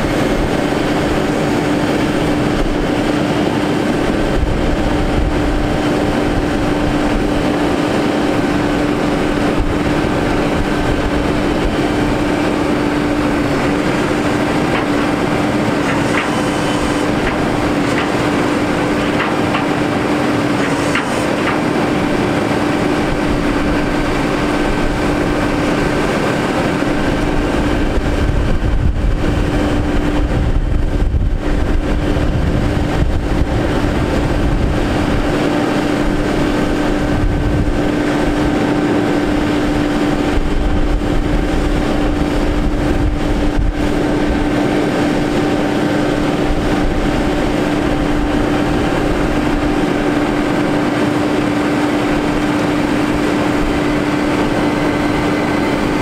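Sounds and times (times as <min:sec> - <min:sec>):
deeper rumble: 0:00.0 - 0:56.0
diesel engine droning: 0:00.0 - 0:56.0.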